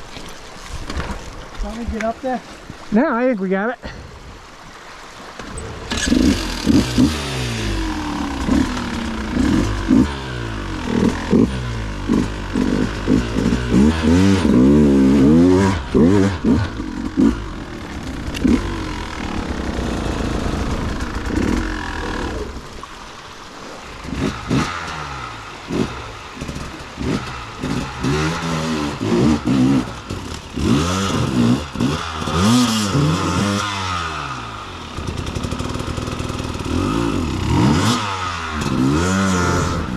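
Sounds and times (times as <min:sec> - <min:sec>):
dirt bike engine revving: 0:05.4 - 0:22.7, 0:24.0 - 0:39.9.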